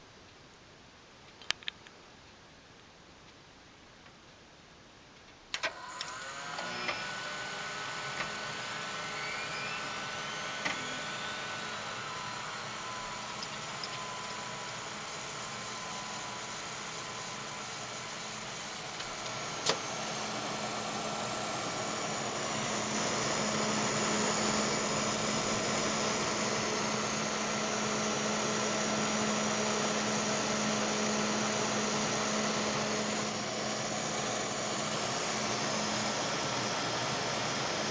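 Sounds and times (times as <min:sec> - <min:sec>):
cooling fans whirring: 0:05.5 - 0:37.9.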